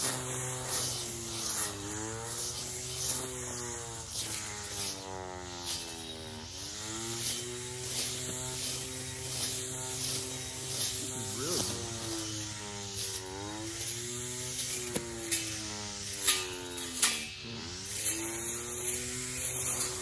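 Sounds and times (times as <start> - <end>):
weed eater motor buzzing: 0.0 - 20.0.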